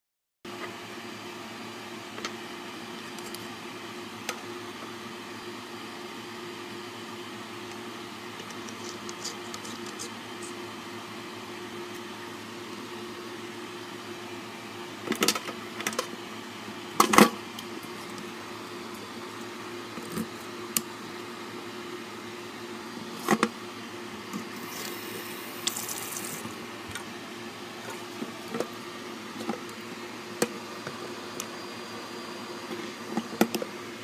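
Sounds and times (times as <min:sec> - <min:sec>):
low background hum: 0:00.6 - 0:34.0.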